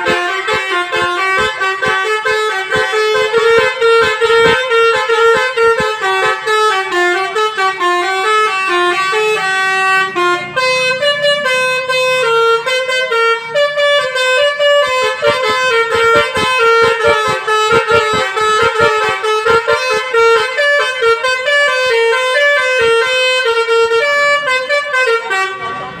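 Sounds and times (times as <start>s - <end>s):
musical bus horn playing a melody: 0.0s - 26.0s.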